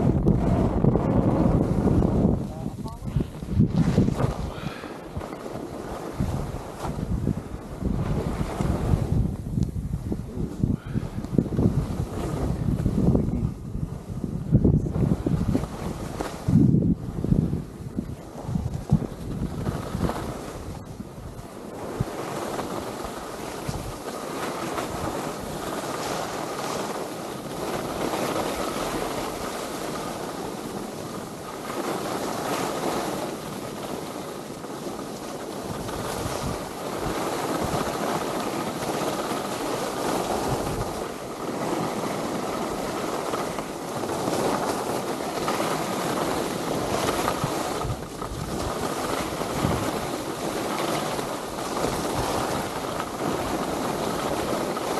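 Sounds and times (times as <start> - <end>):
skis scraping over snow: 0.0 - 54.9
wind buffeting microphone: 0.0 - 54.9.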